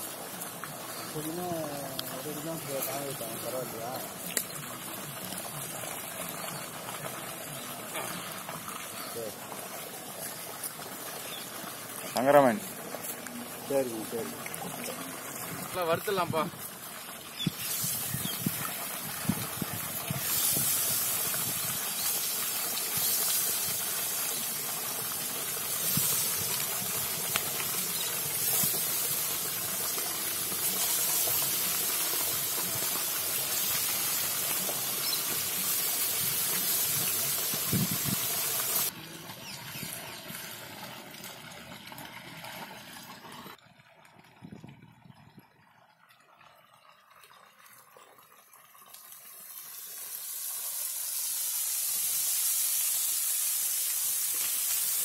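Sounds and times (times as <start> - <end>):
fish frying in hot oil: 0.0 - 43.6, 48.6 - 55.0.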